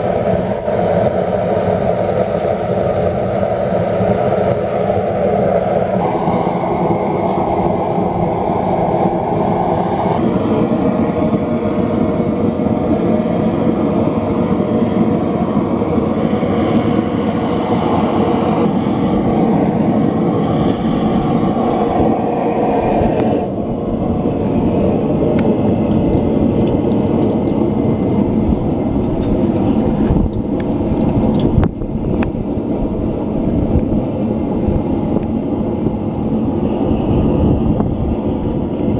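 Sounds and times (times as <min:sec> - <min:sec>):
gas burner roaring: 0:00.0 - 0:38.9.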